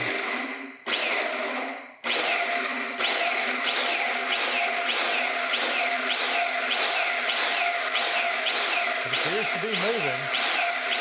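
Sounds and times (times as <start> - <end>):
hydraulic pump whining: 0.0 - 11.0.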